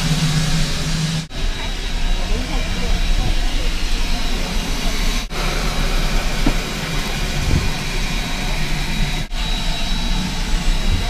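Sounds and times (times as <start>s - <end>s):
steam hissing: 0.0s - 11.0s
steam locomotive rumbling: 0.0s - 11.0s.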